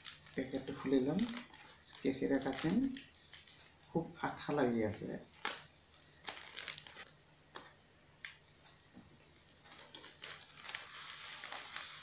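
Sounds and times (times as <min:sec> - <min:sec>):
plastic packaging crinkling: 0:00.0 - 0:04.0, 0:05.0 - 0:08.6, 0:09.3 - 0:12.0.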